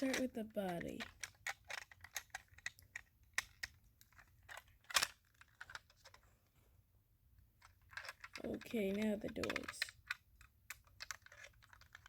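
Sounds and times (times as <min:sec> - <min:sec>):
clicks of toy car parts: 0:00.0 - 0:06.2, 0:07.6 - 0:12.0.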